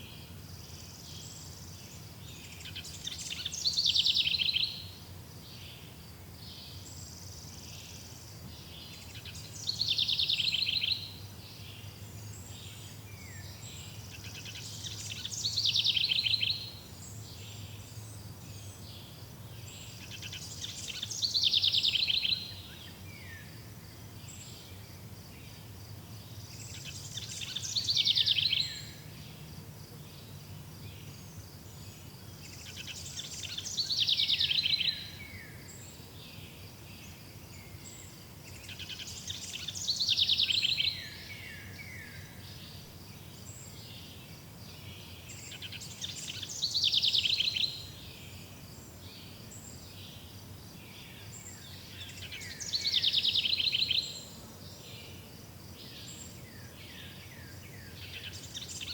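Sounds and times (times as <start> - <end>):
faint steady hiss: 0.0 - 58.9
songbird singing a repeated phrase: 0.0 - 58.9.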